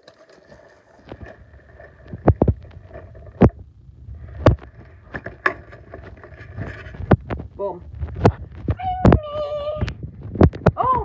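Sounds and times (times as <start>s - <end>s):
low handling rumble: 1.1s - 11.0s.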